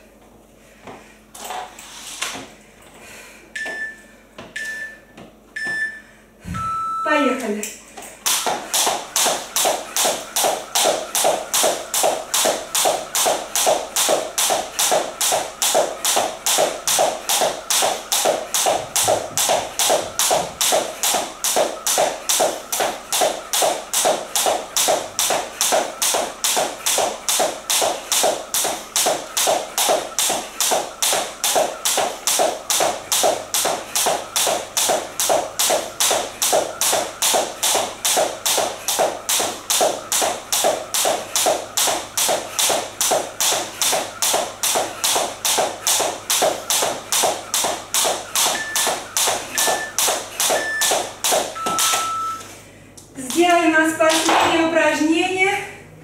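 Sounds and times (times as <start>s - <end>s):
skipping rope slapping wooden floor: 8.2s - 52.1s, 53.2s - 54.7s.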